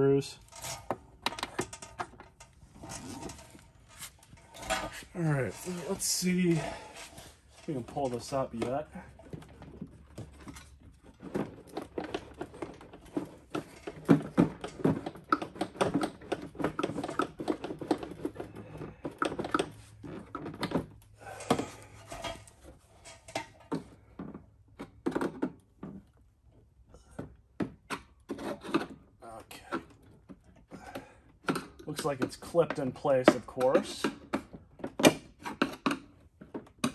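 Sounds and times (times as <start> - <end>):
hard plastic clicking and creaking: 0.4 - 36.9.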